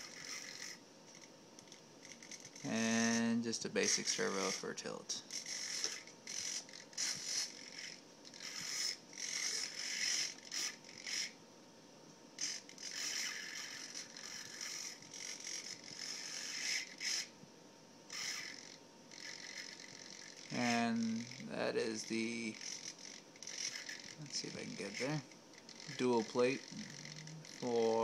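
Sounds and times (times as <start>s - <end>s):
servos whirring: 0.0s - 11.4s, 12.4s - 17.3s, 18.1s - 28.0s.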